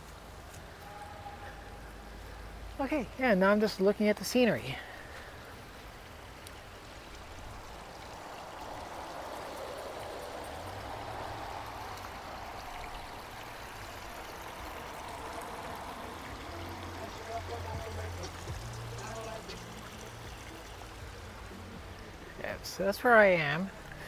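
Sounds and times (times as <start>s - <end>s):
creek trickling over rocks: 0.0s - 24.0s.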